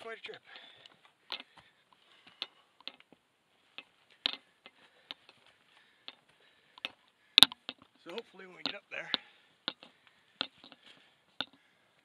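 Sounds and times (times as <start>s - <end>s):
footsteps on rocky trail: 0.0s - 12.0s.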